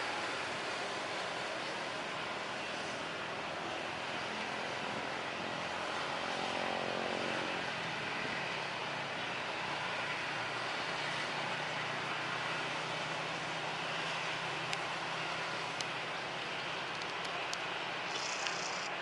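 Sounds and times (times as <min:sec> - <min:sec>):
jet engines at take-off power: 0:00.0 - 0:19.0.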